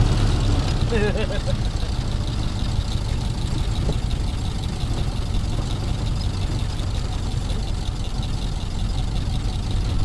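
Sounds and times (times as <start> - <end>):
old car engine running: 0.0 - 10.0.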